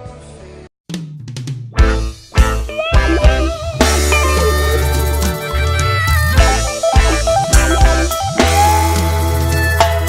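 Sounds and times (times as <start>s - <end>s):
pop music guitar: 1.8s - 10.0s.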